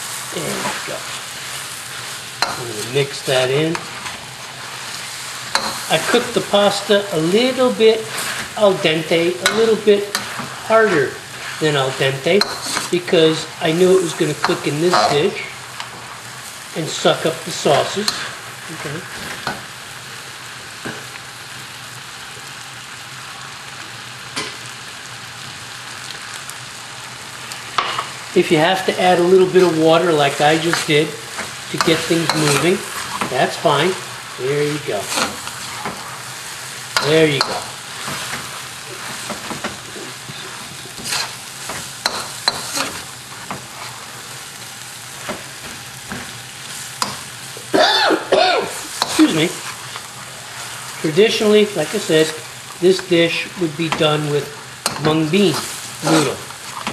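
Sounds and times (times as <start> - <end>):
food sizzling in a wok: 0.0 - 56.9
metal tongs scraping a pan: 0.2 - 19.7, 28.7 - 47.3, 48.8 - 56.9.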